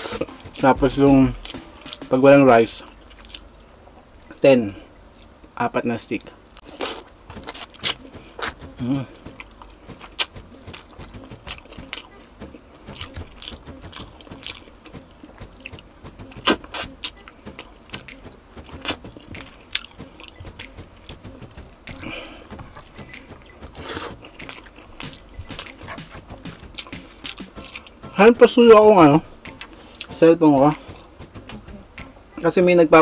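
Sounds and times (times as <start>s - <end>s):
person chewing food: 2.9s - 4.4s, 5.0s - 5.4s, 6.5s - 28.2s, 29.2s - 32.4s.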